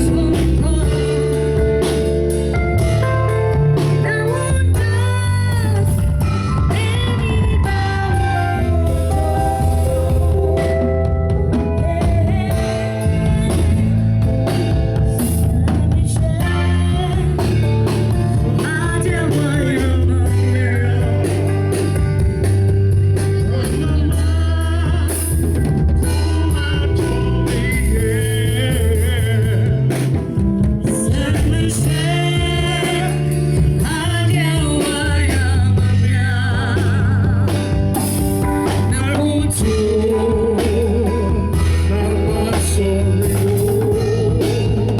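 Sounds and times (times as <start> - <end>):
person singing with vibrato: 0.0 - 2.2, 3.7 - 30.2, 30.8 - 44.9
bass line: 0.0 - 44.9
drum kit: 0.0 - 44.9.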